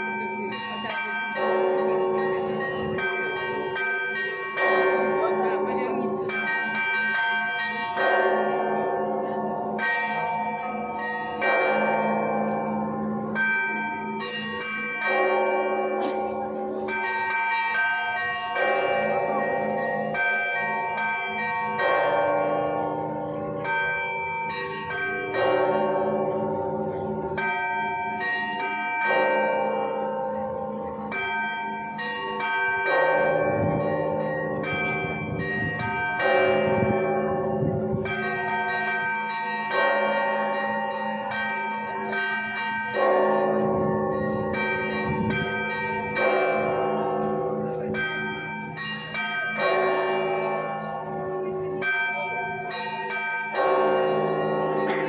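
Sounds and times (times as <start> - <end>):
heavy church bell chords: 0.0 - 55.0
small bells ringing: 0.0 - 55.0.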